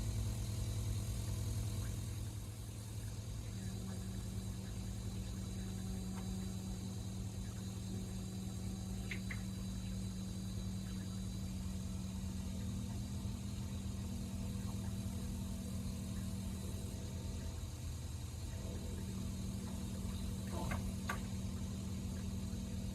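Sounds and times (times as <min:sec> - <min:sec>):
low synthesizer drone: 0:00.0 - 0:22.9.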